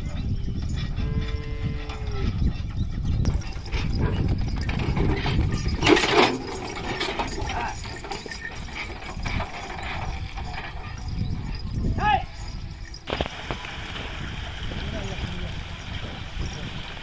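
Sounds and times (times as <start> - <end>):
cart rattling and creaking: 0.0 - 17.0.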